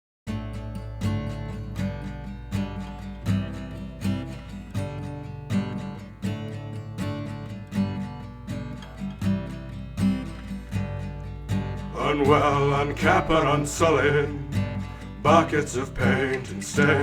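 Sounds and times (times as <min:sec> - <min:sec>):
strummed acoustic guitar: 0:00.3 - 0:17.0.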